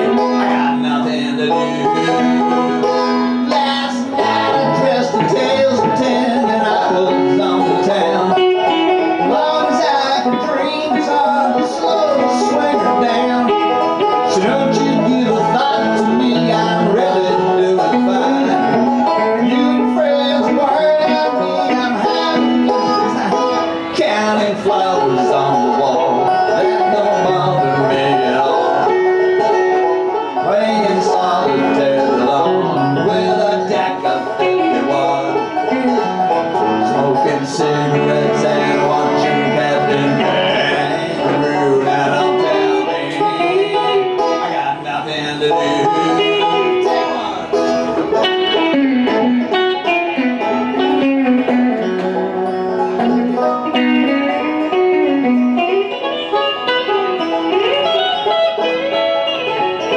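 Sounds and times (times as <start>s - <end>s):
electric guitar chords and runs: 0.0s - 44.5s, 45.8s - 59.9s
banjo picking: 0.0s - 59.9s.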